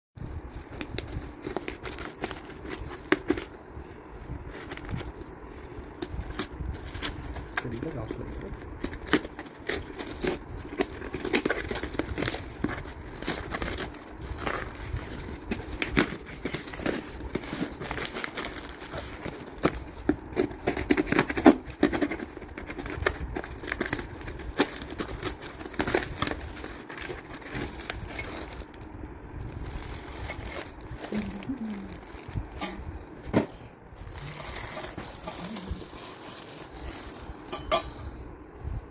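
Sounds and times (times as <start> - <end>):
packaging crinkling and rustling: 0.2 - 38.2.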